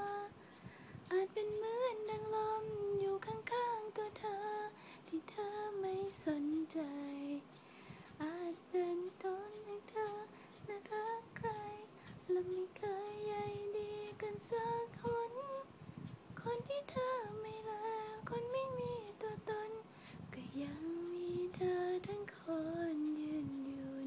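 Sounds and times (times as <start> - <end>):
woman singing: 0.0 - 0.4, 1.1 - 7.4, 8.2 - 15.7, 16.4 - 24.0.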